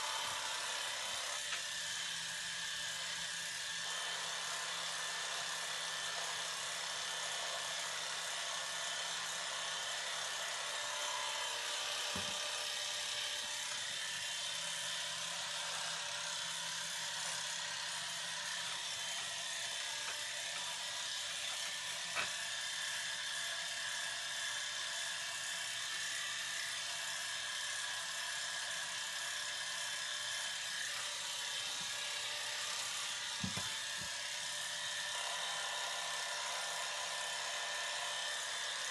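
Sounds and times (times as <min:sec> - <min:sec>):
hair clippers buzzing: 0:00.0 - 0:38.9.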